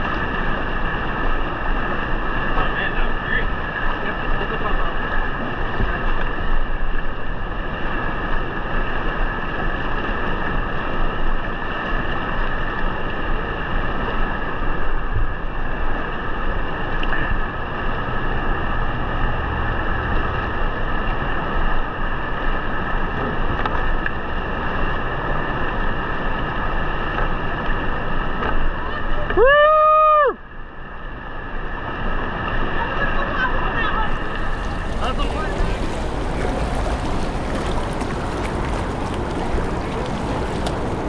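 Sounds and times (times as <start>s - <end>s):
whitewater rapid rushing: 0.0s - 30.4s, 31.4s - 41.0s.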